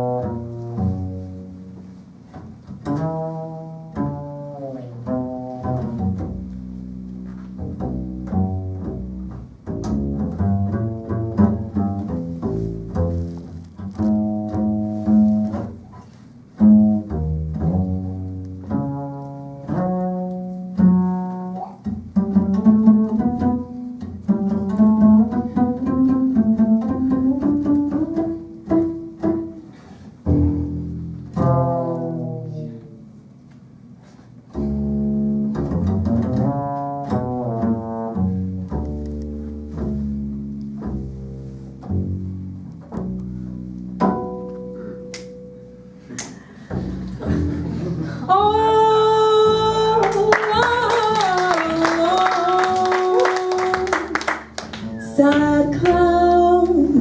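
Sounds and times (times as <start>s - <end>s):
double bass plucked notes: 0.0s - 57.0s.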